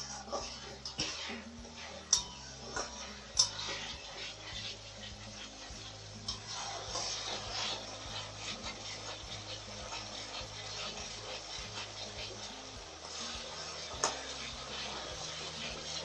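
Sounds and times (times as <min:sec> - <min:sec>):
paste frying in oil: 0:00.0 - 0:16.0
spatula scraping a pan: 0:00.0 - 0:16.0.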